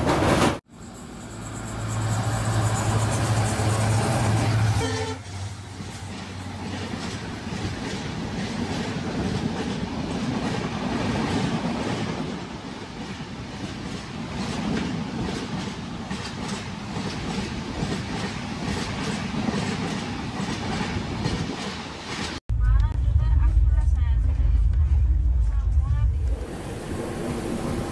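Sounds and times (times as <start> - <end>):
trains rushing past: 0.0 - 22.4, 25.5 - 27.9.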